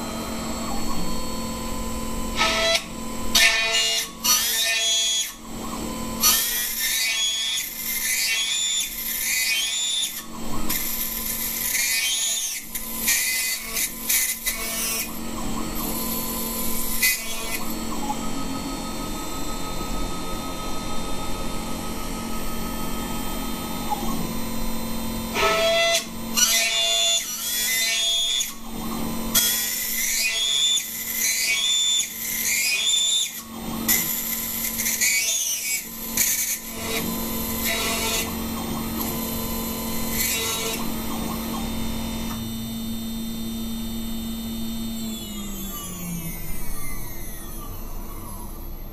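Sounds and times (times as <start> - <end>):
high-pitched metal cutting: 0.0 - 48.8
router spindle running: 0.0 - 48.9.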